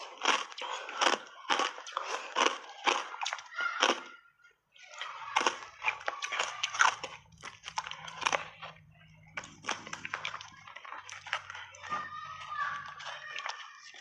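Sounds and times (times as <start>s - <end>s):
ice being chewed: 0.0s - 4.1s, 4.7s - 14.0s.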